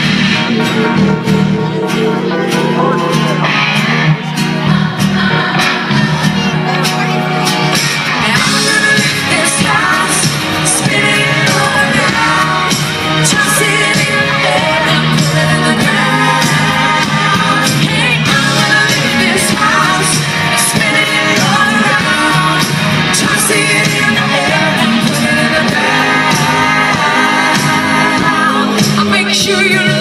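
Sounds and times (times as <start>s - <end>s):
live country band with singing: 0.0s - 30.0s.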